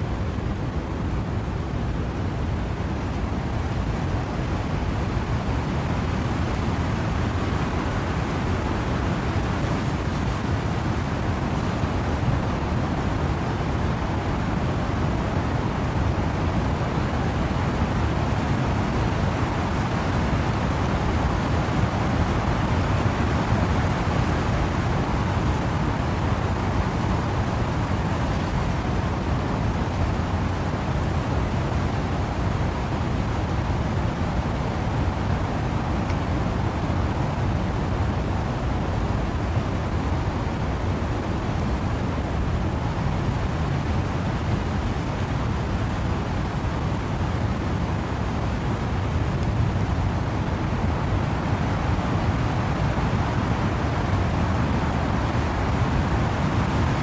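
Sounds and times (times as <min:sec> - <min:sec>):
wind and rain in trees: 0:00.0 - 0:57.0.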